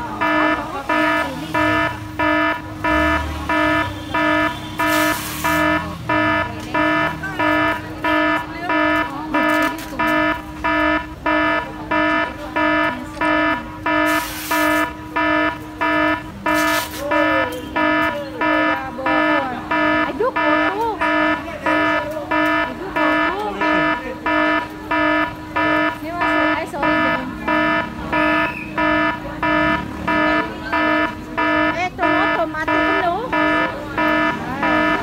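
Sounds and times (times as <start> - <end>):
electronic alarm beeping: 0.0 - 35.0.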